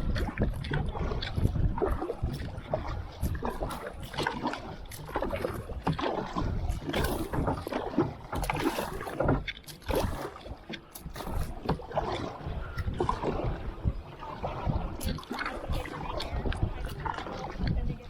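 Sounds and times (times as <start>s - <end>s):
low microphone rumble: 0.0s - 18.0s
paddle splashing in water: 0.0s - 18.0s.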